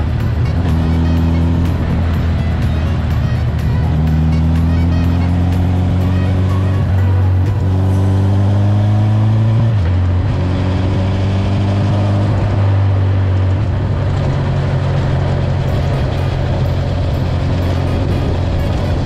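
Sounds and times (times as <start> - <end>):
motorcycle engine accelerating through gears: 0.0 - 19.0.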